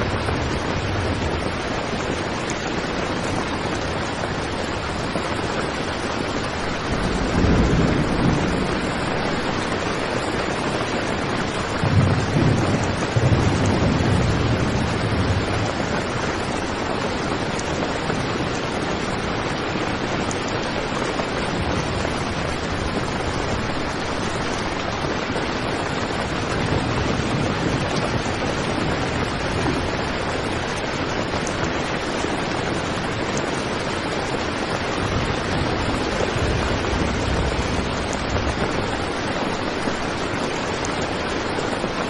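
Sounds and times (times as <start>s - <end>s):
heavy rain drumming on a tent: 0.0s - 42.0s.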